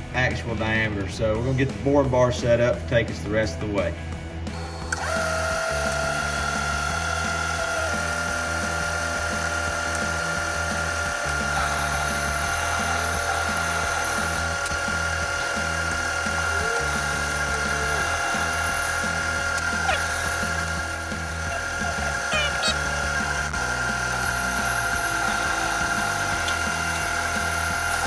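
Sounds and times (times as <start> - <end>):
metal lathe whining: 4.4 - 28.0.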